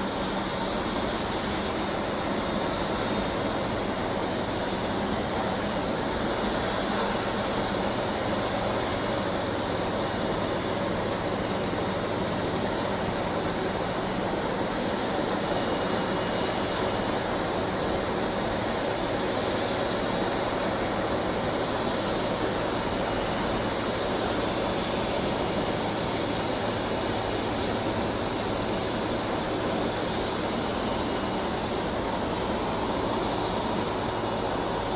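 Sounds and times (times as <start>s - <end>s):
jet engines running: 0.0s - 34.9s.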